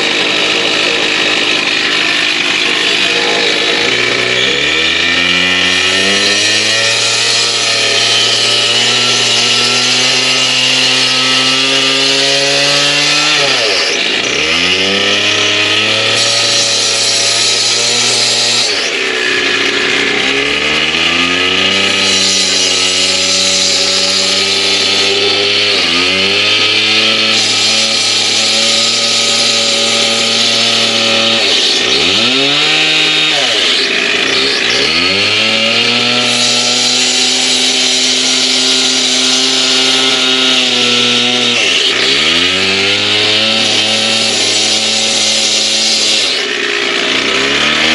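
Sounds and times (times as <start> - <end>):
concrete saw cutting: 0.0 - 47.9.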